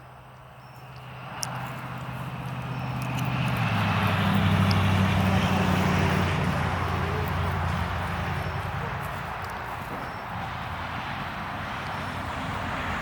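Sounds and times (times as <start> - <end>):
vehicle engine passing by: 0.8 - 13.0.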